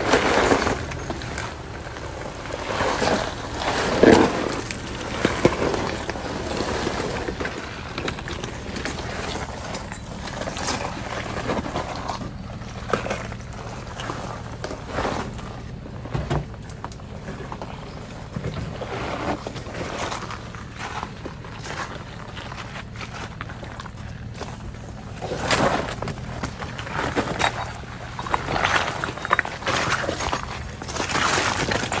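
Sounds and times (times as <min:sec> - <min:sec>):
engine running low: 0:00.0 - 0:32.0
tyres knocking and crunching on rock: 0:00.0 - 0:32.0.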